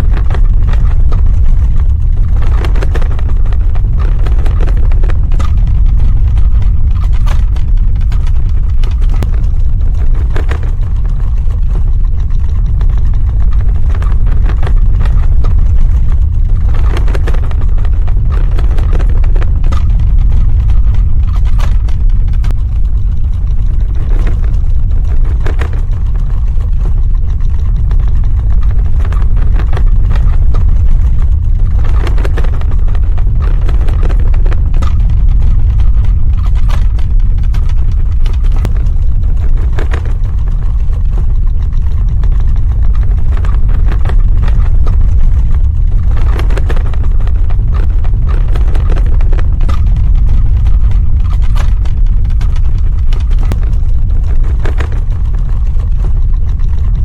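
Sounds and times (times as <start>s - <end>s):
crackling and rattling: 0.0s - 57.0s
deep earthquake rumble: 0.0s - 57.0s.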